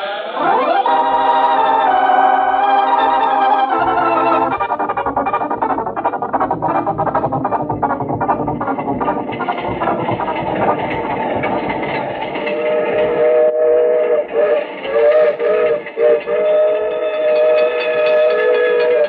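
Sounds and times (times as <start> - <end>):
steam train chime whistle: 0.0 - 6.9, 9.5 - 19.0
steam train rumbling: 0.2 - 19.0.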